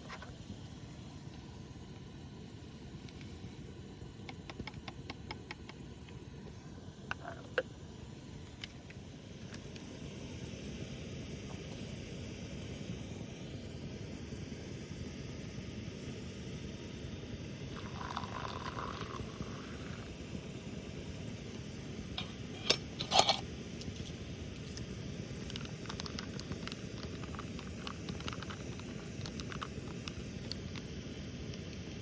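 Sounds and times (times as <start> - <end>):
steady low hiss: 0.0 - 32.0.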